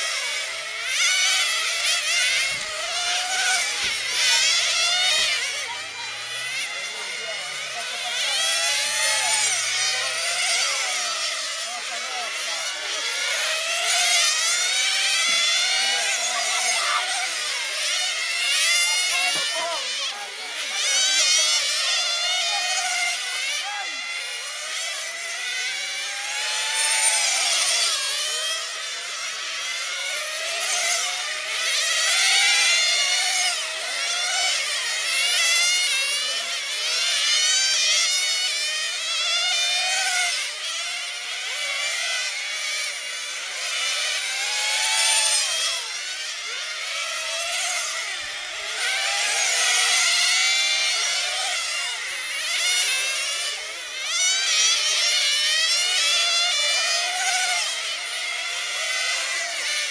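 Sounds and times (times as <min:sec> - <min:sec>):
model car engines whining: 0:00.0 - 0:59.9.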